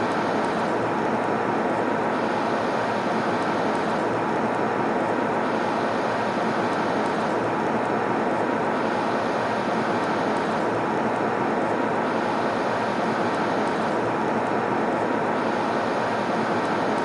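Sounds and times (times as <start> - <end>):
airliner cabin engine rush: 0.0 - 17.0.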